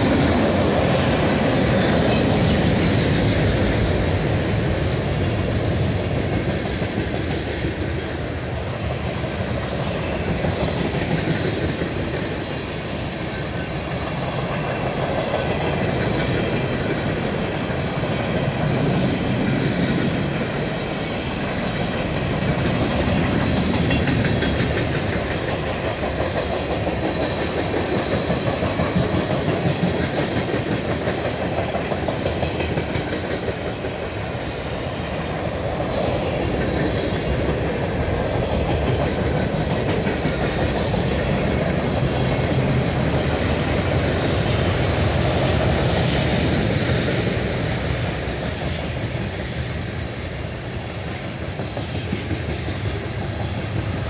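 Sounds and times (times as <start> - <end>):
freight train wheels rolling on rails: 0.0 - 54.0.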